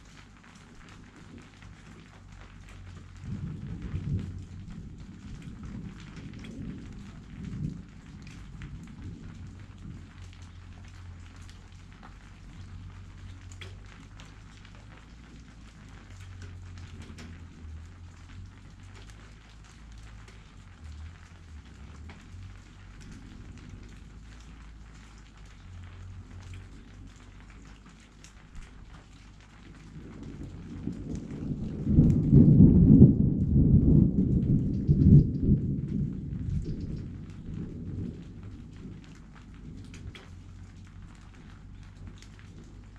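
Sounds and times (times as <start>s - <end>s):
low rumble of wind: 0.0s - 42.9s
rain hiss: 0.0s - 42.9s
raindrops clicking: 0.0s - 42.9s.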